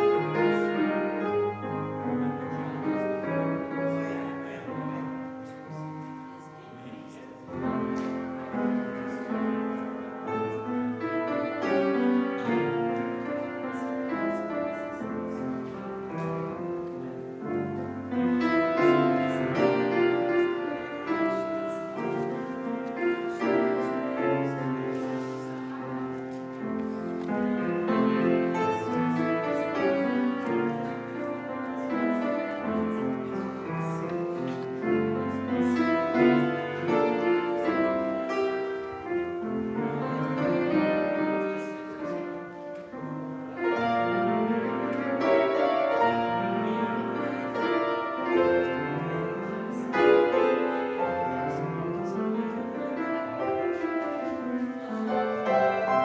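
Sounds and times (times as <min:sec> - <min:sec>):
keyboard chords: 0:00.0 - 0:56.0.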